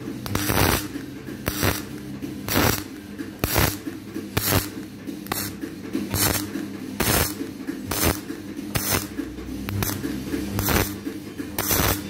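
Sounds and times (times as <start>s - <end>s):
welding arc crackling: 0.2s - 12.0s.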